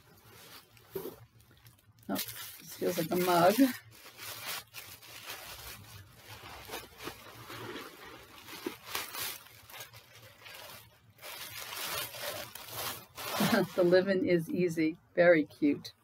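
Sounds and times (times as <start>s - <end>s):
tissue paper rustling and crinkling: 0.0s - 14.2s.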